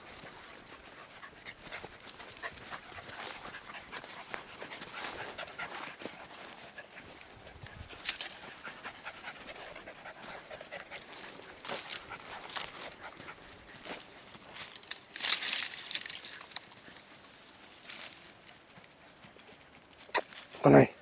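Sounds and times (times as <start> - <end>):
dogs panting: 0.0 - 14.9, 16.4 - 20.0
brush rustling: 0.0 - 20.8.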